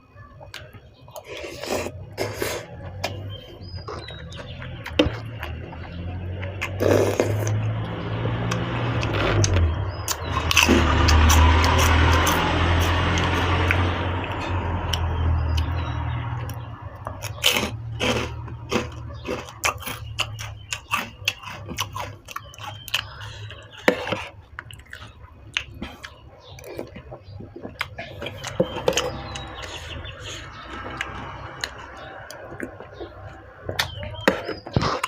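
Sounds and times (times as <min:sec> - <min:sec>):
low vehicle rumble: 0:00.0 - 0:35.0
person chewing: 0:00.4 - 0:35.0.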